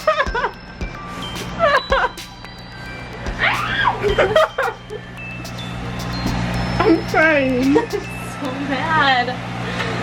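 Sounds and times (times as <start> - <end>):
electronic background music: 0.0 - 9.5.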